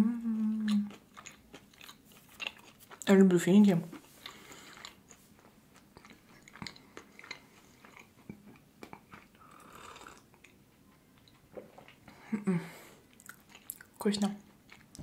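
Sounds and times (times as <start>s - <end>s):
chewing with wet mouth clicks: 0.6s - 3.2s, 4.0s - 12.1s, 13.1s - 15.0s.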